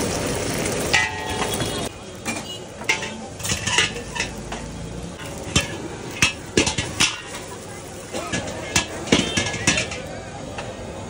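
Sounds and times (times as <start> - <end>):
frying sizzle: 0.0 - 11.0
metal utensil scraping wok: 0.7 - 10.4
metal clanking on wok: 0.8 - 10.8.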